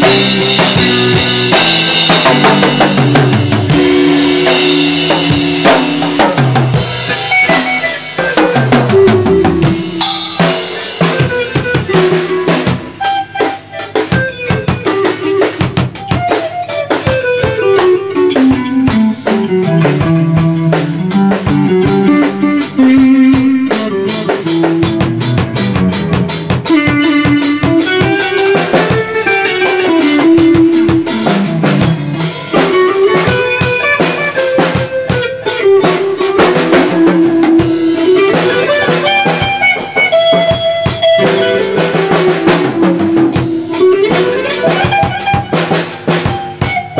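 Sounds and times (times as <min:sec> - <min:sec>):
rock band jamming: 0:00.0 - 0:46.9.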